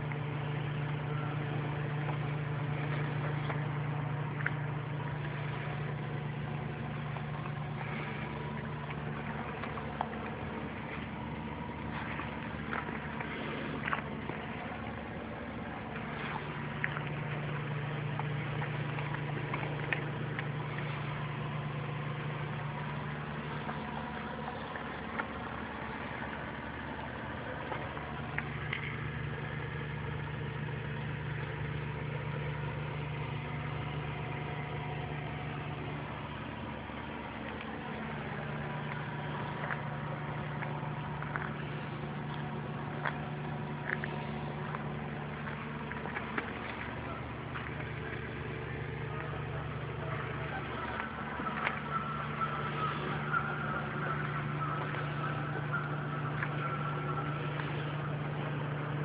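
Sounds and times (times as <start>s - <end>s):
two-stroke engine idling: 0.0s - 59.0s.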